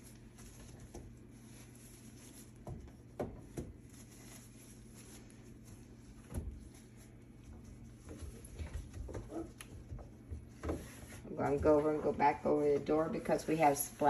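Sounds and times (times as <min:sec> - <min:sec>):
faint handling noises: 0:00.0 - 0:14.0.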